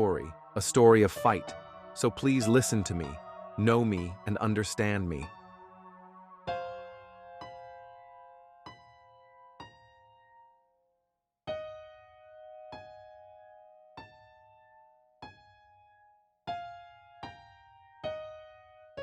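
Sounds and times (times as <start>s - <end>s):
soft piano chords: 0.0s - 10.8s, 11.5s - 19.0s.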